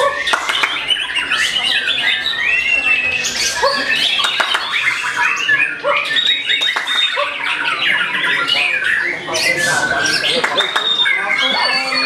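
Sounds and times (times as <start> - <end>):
other songbirds: 0.0 - 12.0
songbird whistling and chattering: 0.0 - 12.0.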